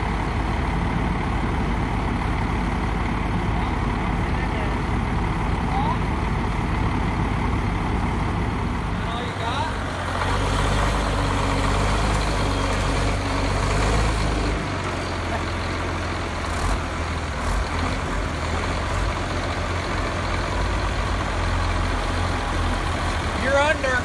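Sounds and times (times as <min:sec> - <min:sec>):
diesel engine rumbling under load: 0:00.0 - 0:24.0.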